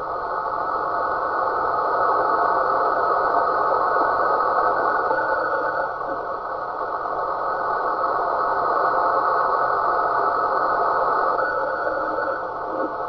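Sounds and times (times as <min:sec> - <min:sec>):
radio signal hiss: 0:00.0 - 0:13.0.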